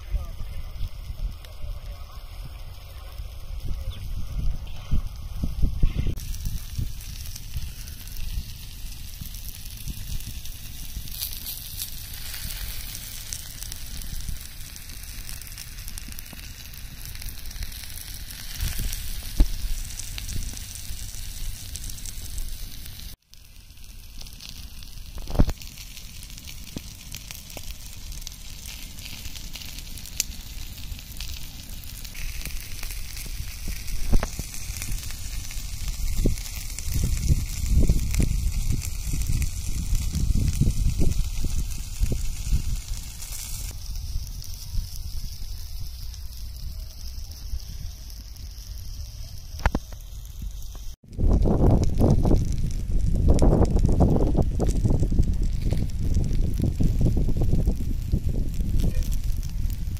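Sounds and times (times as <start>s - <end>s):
chicken sizzling on hot stone: 0.0s - 59.9s
sharp popping: 3.6s - 59.9s.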